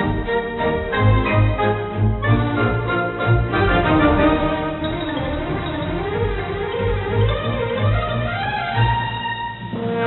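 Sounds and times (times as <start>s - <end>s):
sliding melody: 0.0s - 10.0s.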